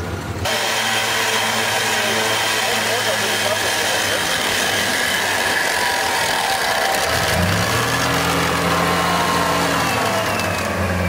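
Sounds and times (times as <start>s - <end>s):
suv engine low drone: 0.0s - 11.0s.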